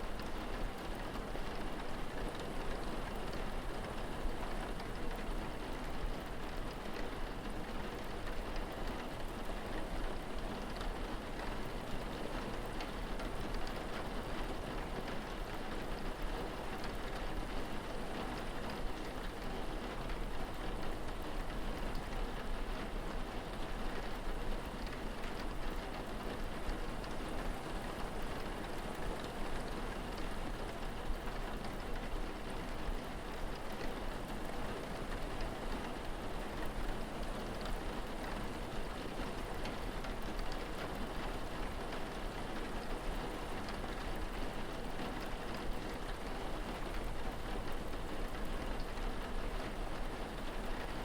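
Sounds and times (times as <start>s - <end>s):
steady rainfall: 0.0s - 51.0s
raindrop ticks: 8.0s - 51.0s.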